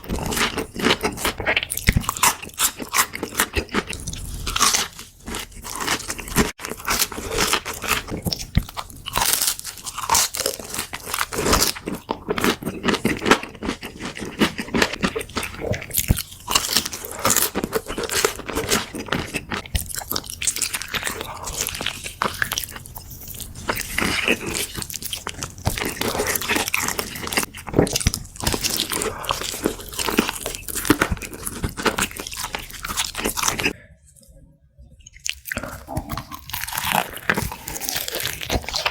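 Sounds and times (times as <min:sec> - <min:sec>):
crunching and chewing fried chicken: 0:00.0 - 0:33.8, 0:35.0 - 0:38.9.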